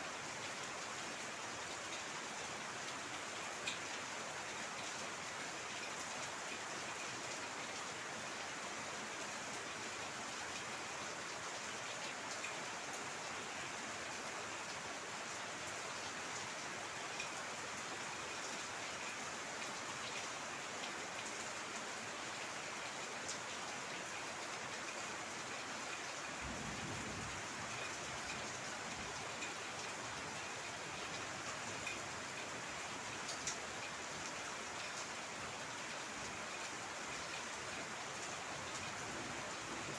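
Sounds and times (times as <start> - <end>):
heavy rain falling: 0.1 - 39.9
raindrops ticking on a surface: 0.1 - 39.9.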